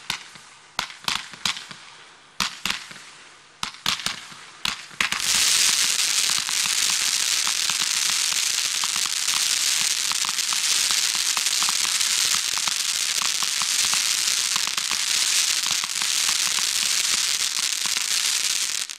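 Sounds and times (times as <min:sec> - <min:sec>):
fireworks crackling and popping: 0:00.0 - 0:18.9.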